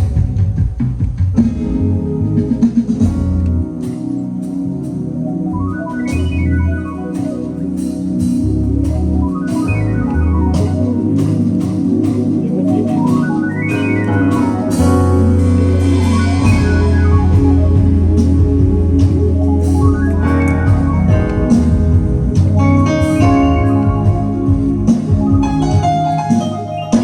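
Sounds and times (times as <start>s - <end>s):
deep bass notes: 0.0s - 27.0s
drums: 0.0s - 27.0s
organ keyboard runs: 0.0s - 27.0s.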